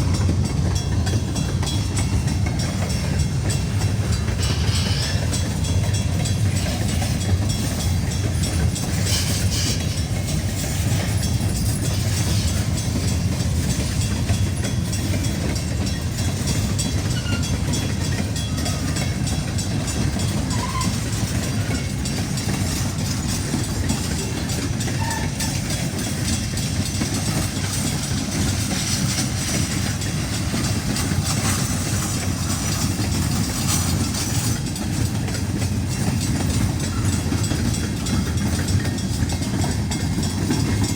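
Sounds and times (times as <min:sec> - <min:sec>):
freight train rumbling past: 0:00.0 - 0:40.9
wheels clacking over rails: 0:00.0 - 0:40.9.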